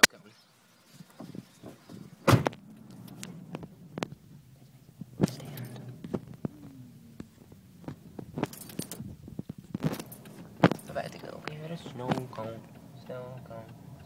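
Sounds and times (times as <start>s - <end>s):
car hum: 0.5s - 14.0s
clicks and rattles in car: 1.1s - 6.6s, 7.2s - 13.8s.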